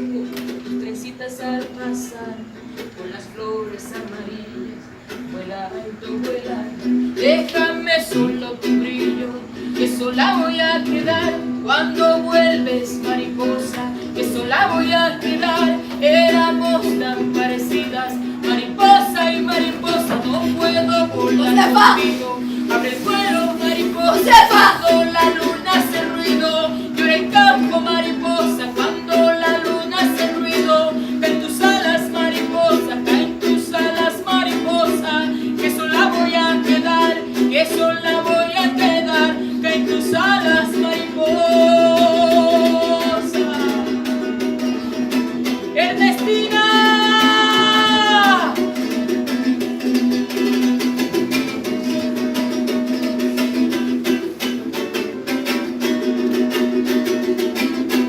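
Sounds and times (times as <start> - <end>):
strummed ukulele with melody: 0.0 - 58.0.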